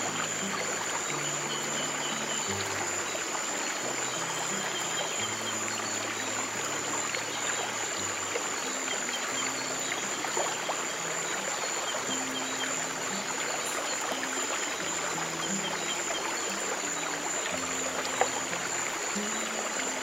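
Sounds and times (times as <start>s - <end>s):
soft relaxation music: 0.0s - 20.0s
water trickling over stones: 0.0s - 20.0s.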